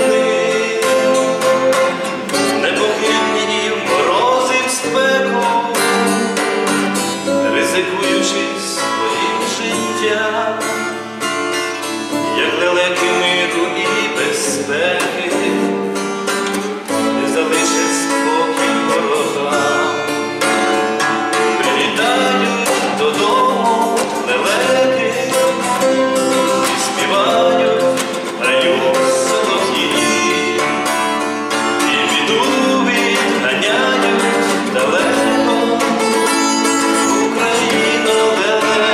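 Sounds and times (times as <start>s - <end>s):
plucked lute music: 0.0s - 38.9s.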